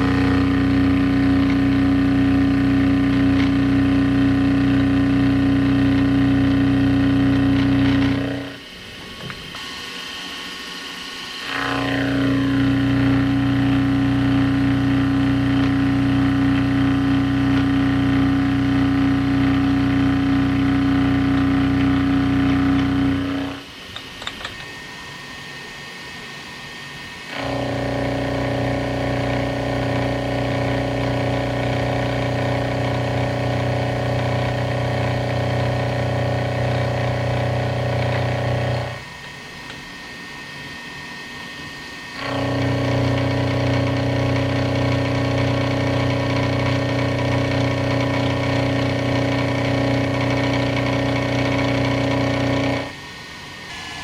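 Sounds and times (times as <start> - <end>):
milling machine cutting: 0.0 - 8.6, 11.4 - 24.8, 27.3 - 40.5, 42.2 - 53.0, 53.6 - 54.0.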